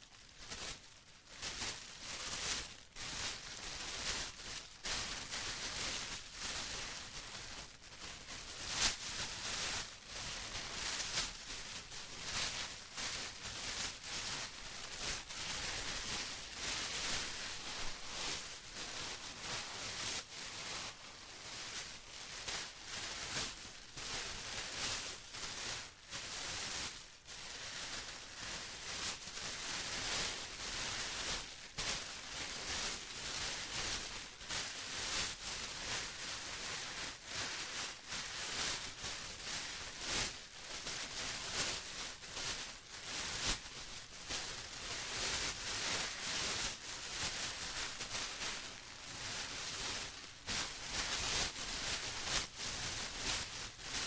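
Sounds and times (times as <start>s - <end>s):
plastic crinkling: 0.0s - 54.0s.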